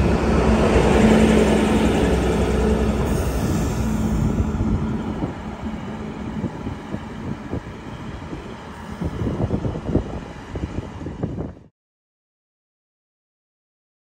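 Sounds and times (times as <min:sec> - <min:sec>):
diesel train rumbling: 0:00.0 - 0:11.7
wind gusting on microphone: 0:00.0 - 0:11.7.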